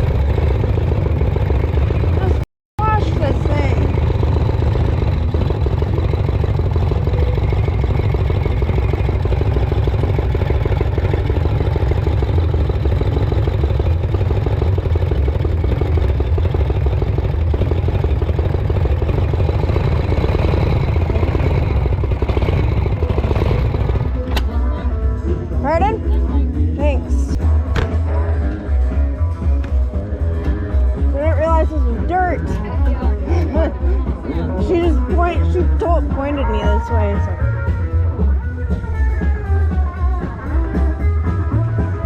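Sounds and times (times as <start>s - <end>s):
motorcycle engine rumbling: 0.0s - 42.0s.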